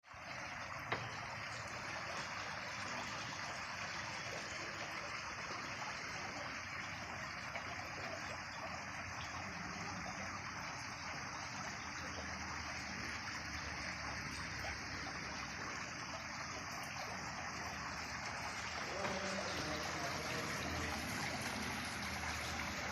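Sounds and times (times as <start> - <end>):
water falling and trickling: 0.0 - 22.9.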